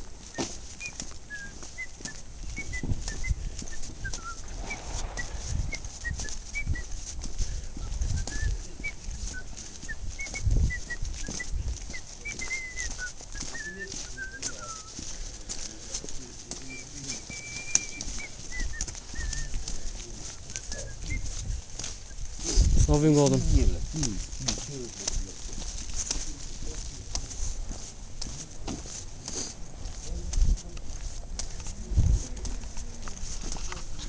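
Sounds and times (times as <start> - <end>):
footsteps on pavement: 0.0 - 34.0.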